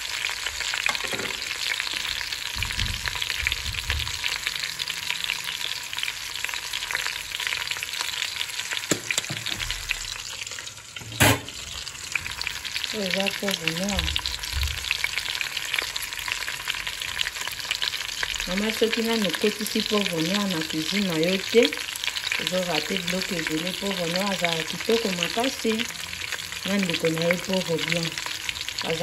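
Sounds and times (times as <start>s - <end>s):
food frying in oil: 0.0s - 29.0s.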